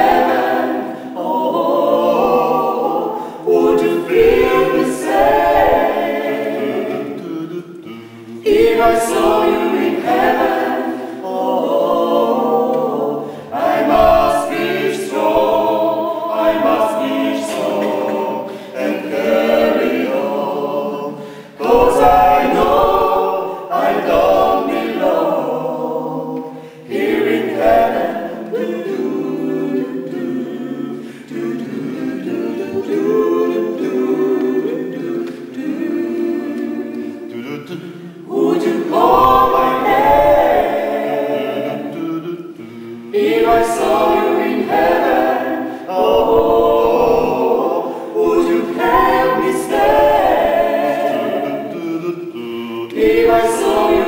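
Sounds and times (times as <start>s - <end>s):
a cappella choir singing: 0.0s - 54.0s.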